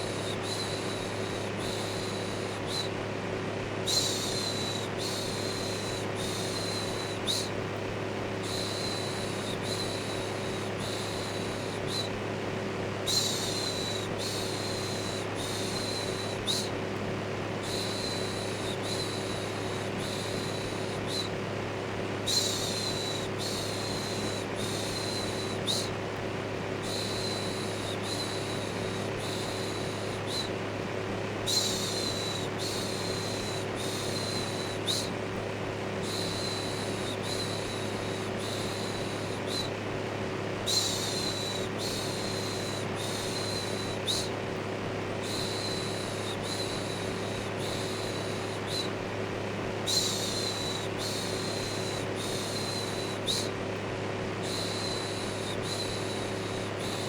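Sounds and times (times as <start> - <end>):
electric fan humming: 0.0 - 57.0.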